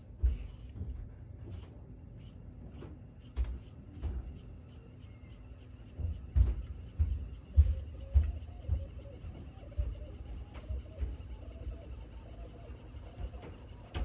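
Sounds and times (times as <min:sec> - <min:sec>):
tape reels spinning fast: 0:01.5 - 0:14.0.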